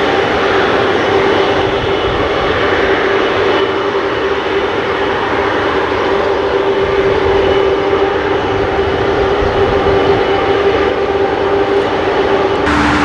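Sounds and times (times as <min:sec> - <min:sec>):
jet engines running: 0:00.0 - 0:13.0
steady whining tone: 0:00.0 - 0:13.0.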